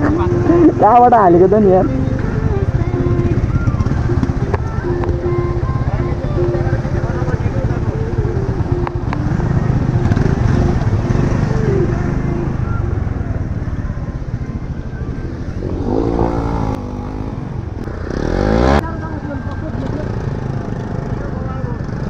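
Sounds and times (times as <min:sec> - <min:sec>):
motorcycle engine on gravel road: 0:00.0 - 0:22.0
passing motorcycle engine: 0:00.0 - 0:22.0.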